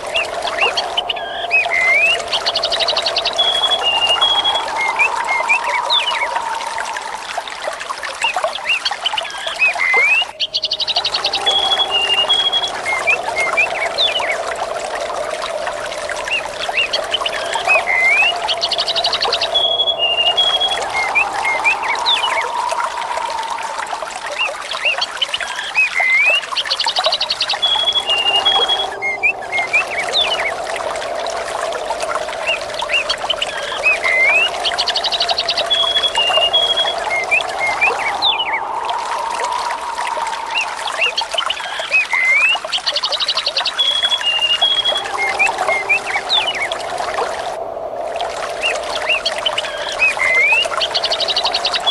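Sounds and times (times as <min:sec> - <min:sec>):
birds chirping: 0:00.0 - 0:47.6, 0:48.6 - 0:51.9
running water trickling: 0:00.0 - 0:51.9.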